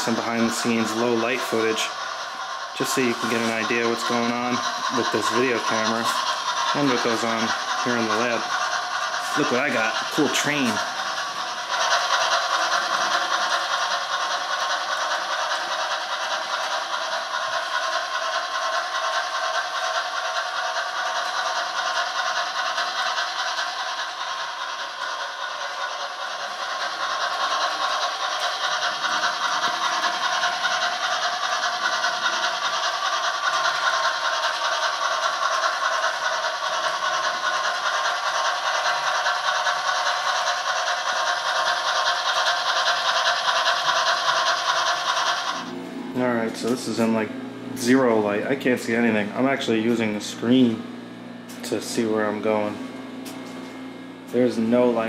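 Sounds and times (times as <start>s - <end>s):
model steam locomotive rattling hiss: 0.0s - 47.2s, 47.8s - 50.8s, 51.5s - 52.8s, 54.3s - 55.0s.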